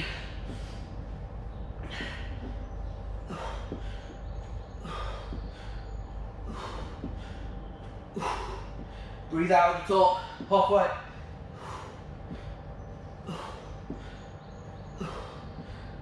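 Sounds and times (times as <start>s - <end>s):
man breathing hard: 0.0s - 9.3s, 11.1s - 16.0s.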